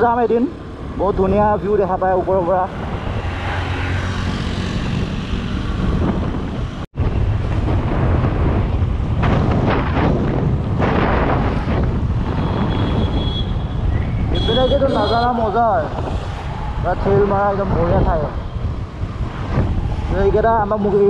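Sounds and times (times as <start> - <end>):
wind noise on microphone: 1.0 - 21.0.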